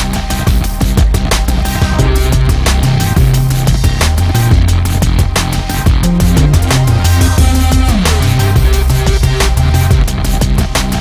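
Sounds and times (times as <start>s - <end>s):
music with heavy beat and bass: 0.0s - 11.0s.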